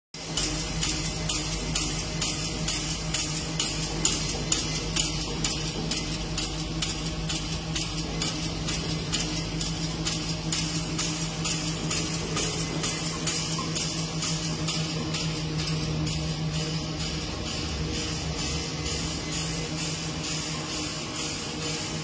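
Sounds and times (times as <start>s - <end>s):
motor hum: 0.2s - 22.0s.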